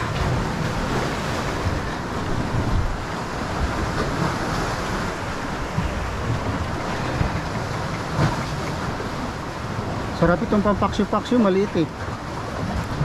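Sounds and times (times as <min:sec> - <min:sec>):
wind buffeting microphone: 0:00.0 - 0:11.0
sea water washing around boat: 0:00.0 - 0:13.0.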